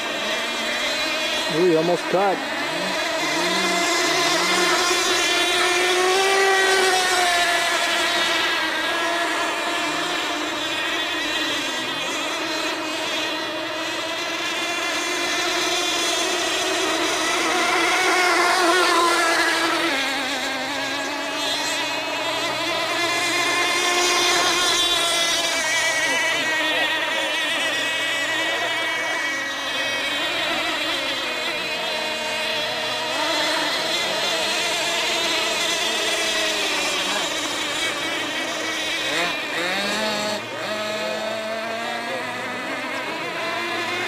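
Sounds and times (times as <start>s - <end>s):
model boat engines whining: 0.0s - 44.0s.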